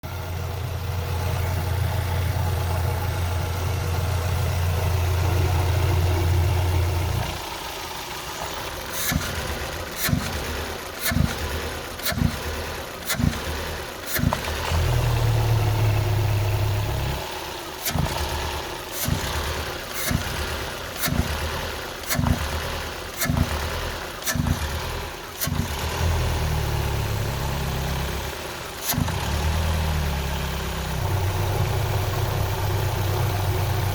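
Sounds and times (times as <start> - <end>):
car engine idling and stuttering: 0.0 - 33.9.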